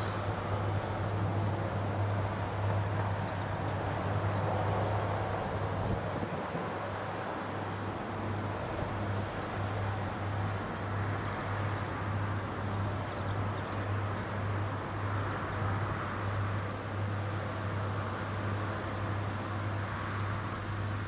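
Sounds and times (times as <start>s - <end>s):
combine harvester engine drone: 0.0s - 21.0s.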